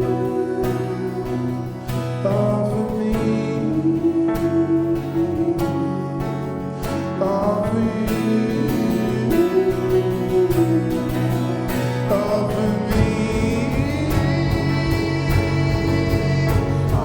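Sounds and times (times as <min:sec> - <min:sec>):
guitar: 0:00.0 - 0:17.0
live worship band playing: 0:00.0 - 0:17.0.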